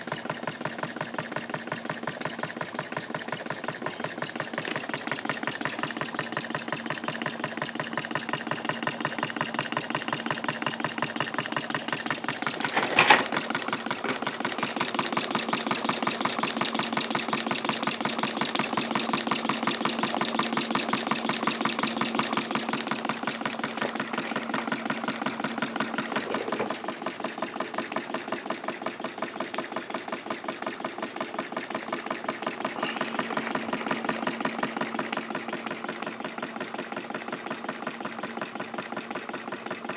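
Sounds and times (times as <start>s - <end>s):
model steam engine exhaust beats: 0.0s - 39.9s.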